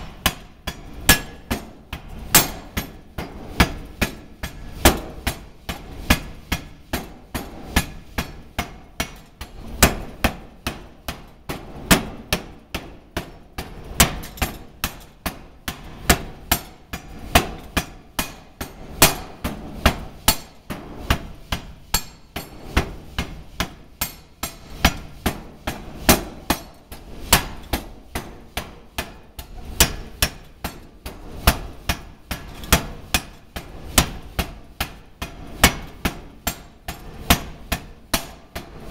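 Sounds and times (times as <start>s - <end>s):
power hammer striking hot metal: 0.0s - 38.9s.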